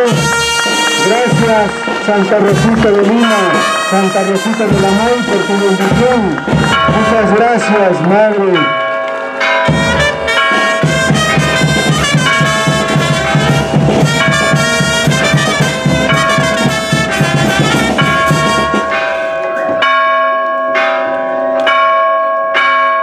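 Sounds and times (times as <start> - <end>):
bass drum beating: 0.0 - 8.9, 9.6 - 20.0
brass band playing: 0.0 - 19.7
church bells ringing: 0.0 - 23.0.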